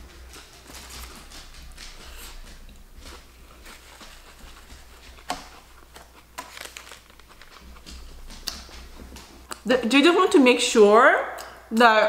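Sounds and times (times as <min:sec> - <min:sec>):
wet chewing sounds: 0:00.0 - 0:09.7.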